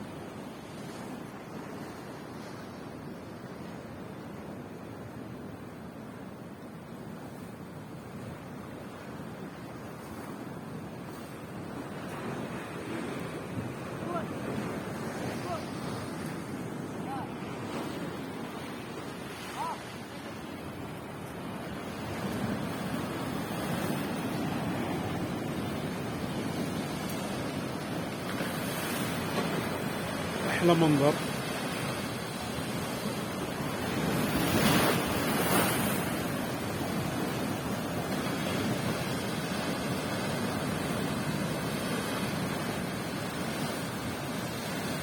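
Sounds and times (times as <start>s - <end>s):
sea surf washing onto shore: 0.0s - 45.0s
waves breaking: 0.0s - 45.0s.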